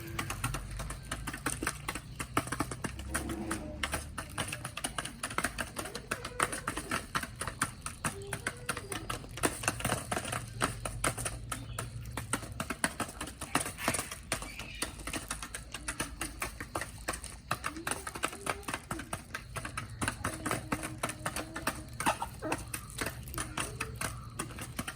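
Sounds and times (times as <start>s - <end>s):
chickens pecking at food: 0.0s - 24.9s.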